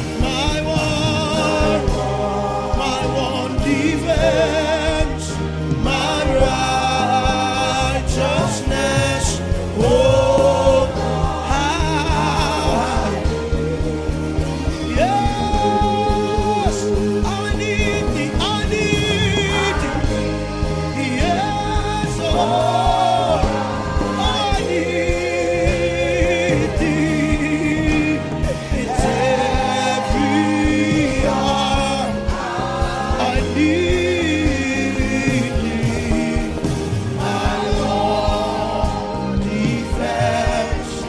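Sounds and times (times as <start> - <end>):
band playing steady beat: 0.0 - 41.0
gospel singing: 0.0 - 41.0.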